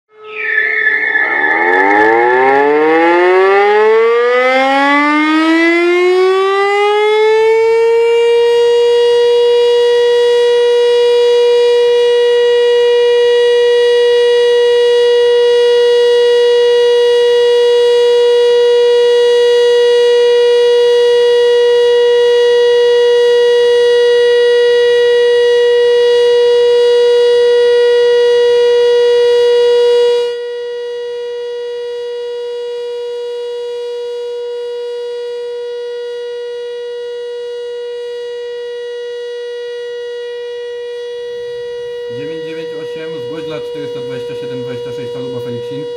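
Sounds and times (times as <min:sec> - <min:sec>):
siren winding up: 0:00.1 - 0:30.6, 0:38.1 - 0:44.4.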